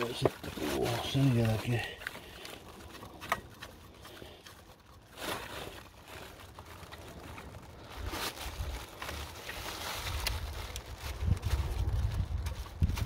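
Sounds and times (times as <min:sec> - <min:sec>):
hands handling hoses: 0:00.0 - 0:11.8.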